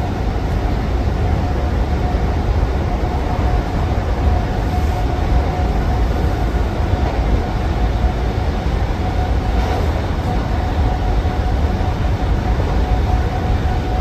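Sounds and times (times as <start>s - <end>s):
constant electric whine: 0.0s - 14.0s
train wheels rumbling on track: 0.0s - 14.0s.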